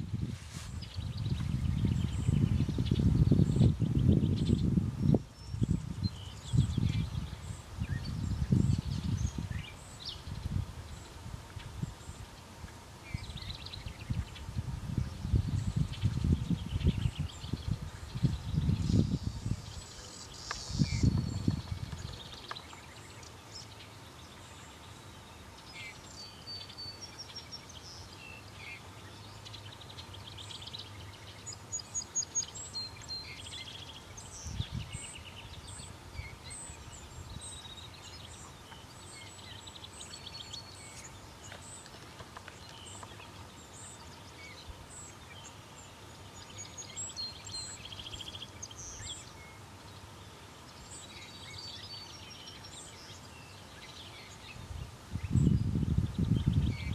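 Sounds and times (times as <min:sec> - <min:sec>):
faint outdoor hiss: 0:00.0 - 0:56.9
small birds chirping: 0:00.0 - 0:56.9.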